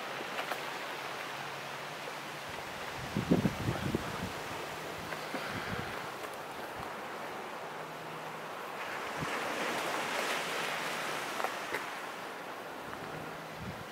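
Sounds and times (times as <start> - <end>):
ocean waves washing: 0.0 - 13.9
wind: 0.0 - 13.9.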